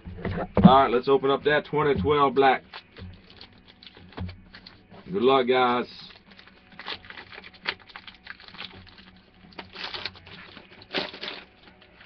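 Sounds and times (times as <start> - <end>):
cardboard and wrapper rustling: 0.0 - 12.0.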